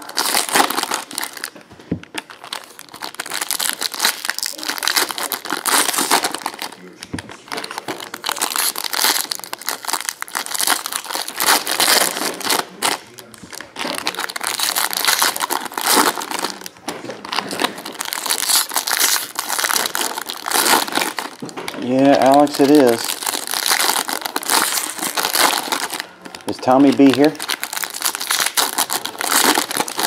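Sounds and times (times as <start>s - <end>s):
foil wrappers crinkling: 0.0s - 30.0s.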